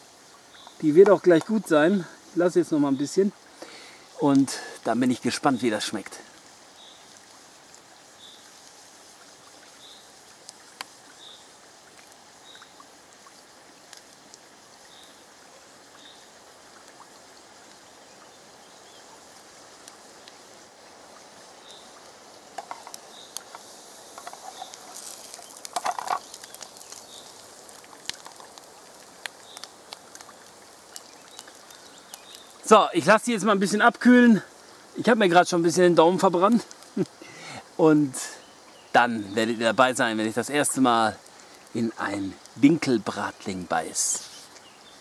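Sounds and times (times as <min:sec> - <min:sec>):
patty sizzling and crackling in oil: 0:00.0 - 0:45.0.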